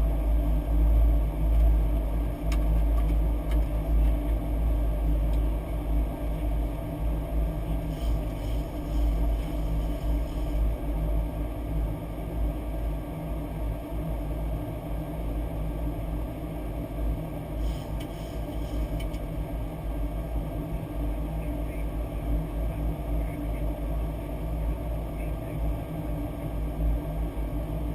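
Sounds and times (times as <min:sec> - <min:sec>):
airflow and engine rumble: 0:00.0 - 0:27.9.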